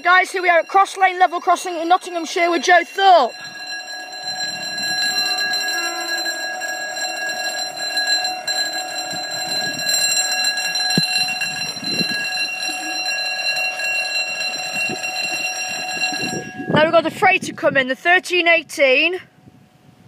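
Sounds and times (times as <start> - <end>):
level crossing alarm tone: 0.0 - 17.2.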